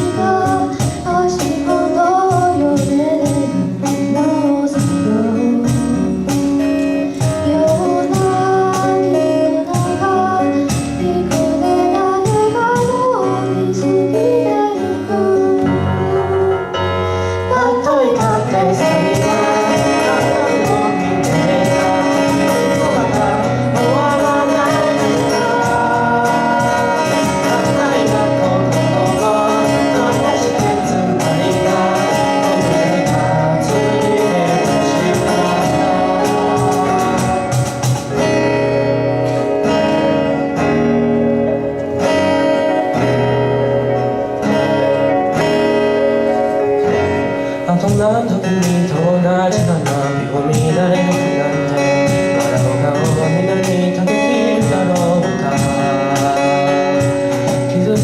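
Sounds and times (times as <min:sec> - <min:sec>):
person singing: 0:00.0 - 0:38.6, 0:42.0 - 0:58.0
live band playing pop ballad: 0:00.0 - 0:58.0.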